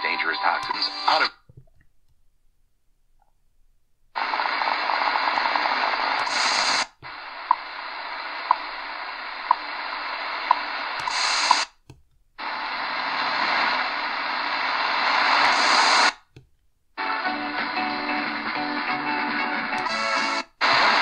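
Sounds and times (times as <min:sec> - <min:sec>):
radio static hiss: 0:00.0 - 0:01.4, 0:04.1 - 0:11.8, 0:12.4 - 0:16.3, 0:17.0 - 0:21.0.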